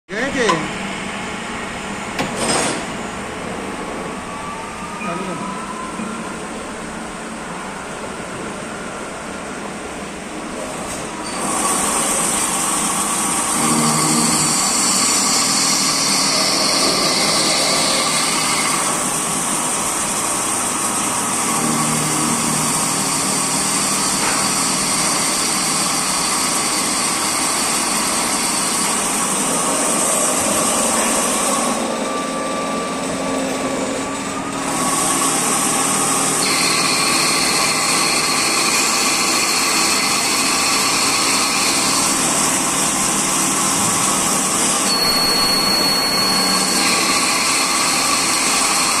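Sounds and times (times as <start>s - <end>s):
cnc machine whine: 2.9s - 49.0s.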